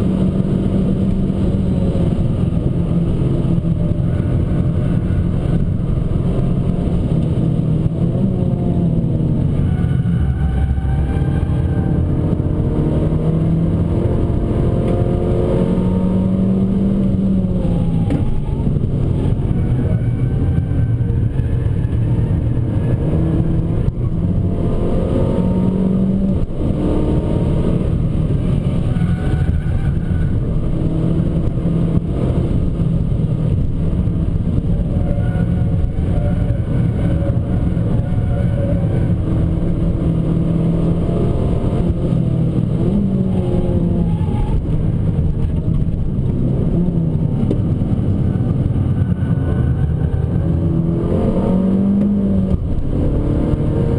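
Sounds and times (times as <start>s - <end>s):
car engine revving: 0.0s - 53.9s
road noise: 0.0s - 53.9s.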